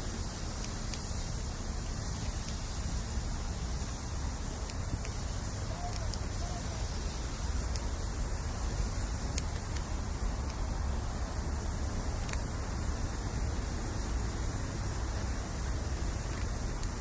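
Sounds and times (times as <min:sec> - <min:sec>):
campfire crackles and pops: 0:00.0 - 0:17.0
fire low rumble and hiss: 0:00.0 - 0:17.0.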